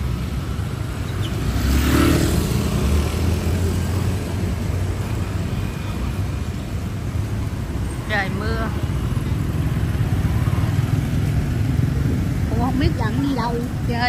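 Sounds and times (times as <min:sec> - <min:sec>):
vehicle passing on wet road: 0:00.0 - 0:13.9
scooter engines humming: 0:00.0 - 0:14.0.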